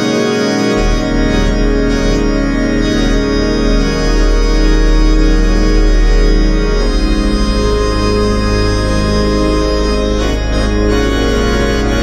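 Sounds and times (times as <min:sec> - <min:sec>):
deep organ pedal bass: 0:00.0 - 0:12.0
organ playing full chord: 0:00.0 - 0:12.0.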